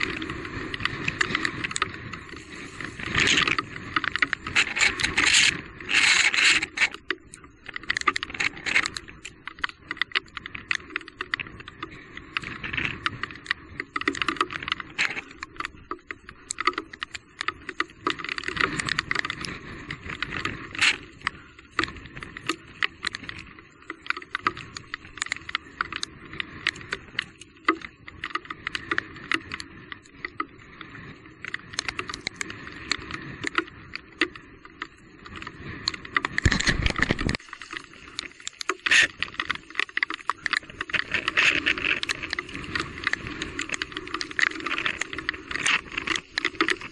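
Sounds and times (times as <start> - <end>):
bike rattling over rough ground: 0.0 - 46.9.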